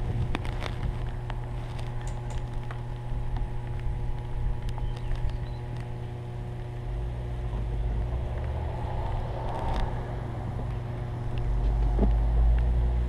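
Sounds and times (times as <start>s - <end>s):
faint constant hum: 0.0s - 13.0s
low wind rumble: 0.0s - 13.0s.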